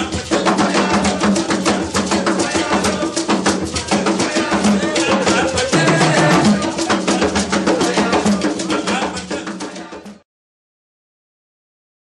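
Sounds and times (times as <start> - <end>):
fast drumming dance music: 0.0 - 10.2.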